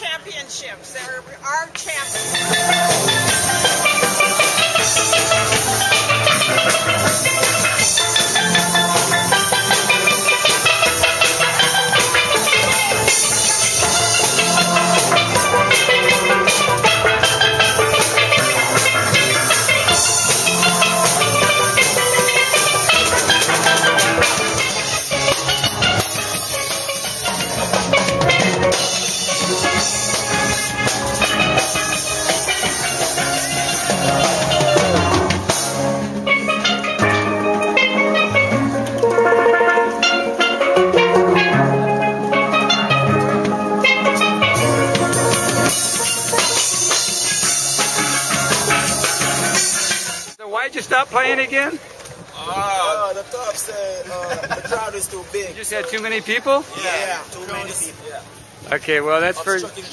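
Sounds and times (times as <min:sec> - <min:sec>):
drum kit beat: 0:00.0 - 0:51.8
steel pan melody: 0:01.8 - 0:52.0, 0:54.4 - 0:59.9.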